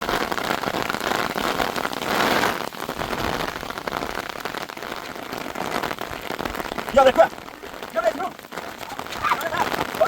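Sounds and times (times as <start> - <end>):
heavy rain pattering: 0.0 - 10.0.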